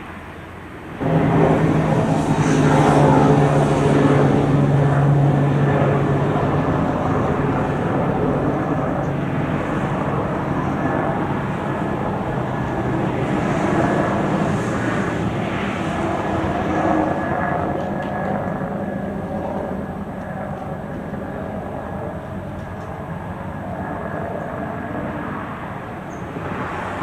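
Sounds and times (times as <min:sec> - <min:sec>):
ship diesel engine drone: 0:00.0 - 0:27.0
wind and water noise: 0:00.0 - 0:27.0.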